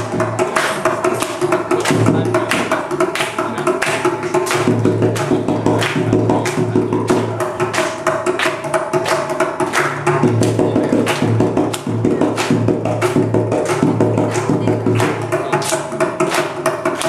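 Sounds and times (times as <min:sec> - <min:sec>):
fast drum and clay-pot strokes: 0:00.0 - 0:17.0.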